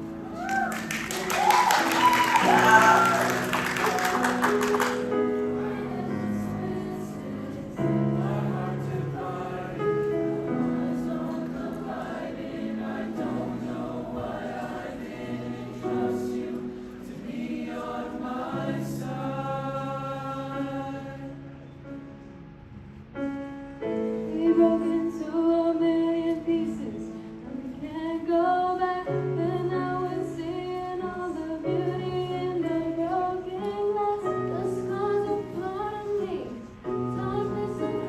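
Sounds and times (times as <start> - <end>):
choir singing sustained chords: 0.0 - 22.2, 28.7 - 38.0.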